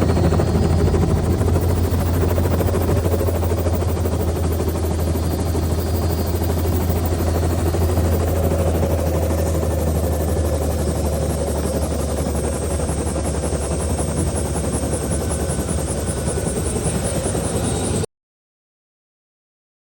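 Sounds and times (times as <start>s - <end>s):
helicopter rotor chop: 0.0s - 18.1s.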